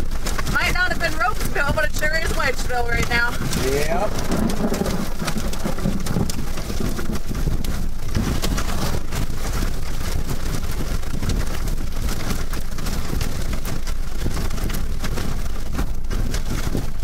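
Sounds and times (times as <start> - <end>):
heavy rain on car windshield: 0.0 - 17.0.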